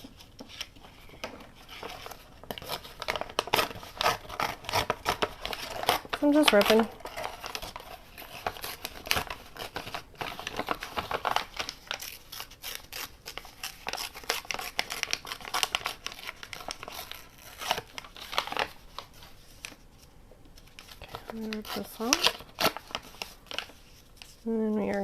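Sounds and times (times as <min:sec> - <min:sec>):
paper crinkling: 0:00.0 - 0:25.0
paper tearing: 0:01.7 - 0:19.8, 0:20.8 - 0:25.0.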